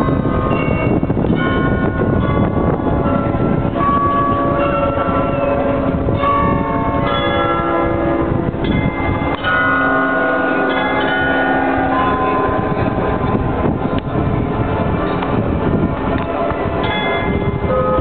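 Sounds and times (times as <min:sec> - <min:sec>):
steady noisy rumble: 0:00.0 - 0:10.7, 0:11.3 - 0:18.0
carillon bells playing a tune: 0:00.0 - 0:13.8, 0:16.8 - 0:18.0.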